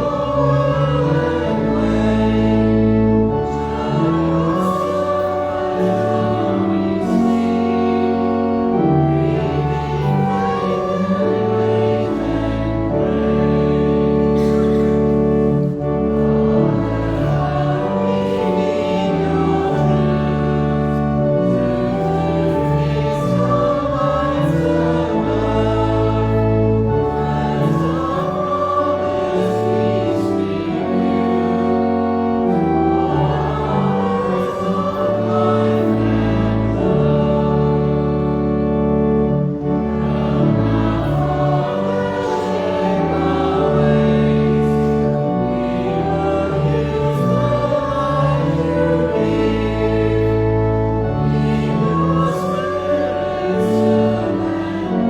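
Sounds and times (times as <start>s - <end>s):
congregation singing a hymn: 0.0s - 55.0s
instrumental accompaniment chords: 0.0s - 55.0s.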